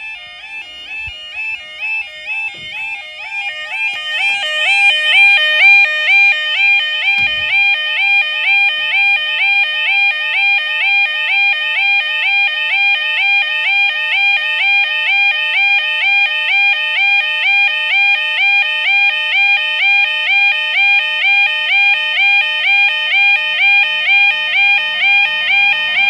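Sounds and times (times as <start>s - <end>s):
level crossing warbling alarm: 0.0s - 15.3s, 18.4s - 26.0s.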